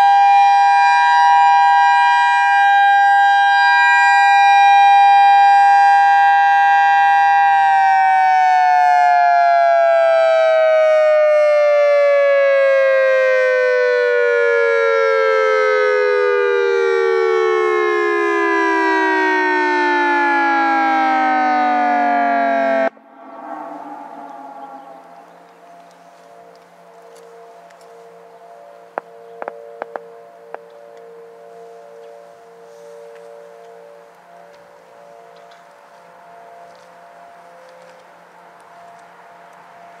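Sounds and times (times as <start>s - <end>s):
outdoor warning siren: 0.0s - 40.0s.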